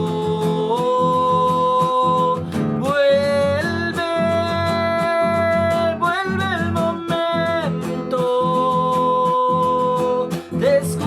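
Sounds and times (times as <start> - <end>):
acoustic guitar strumming: 0.0 - 11.0
person singing: 0.0 - 11.0.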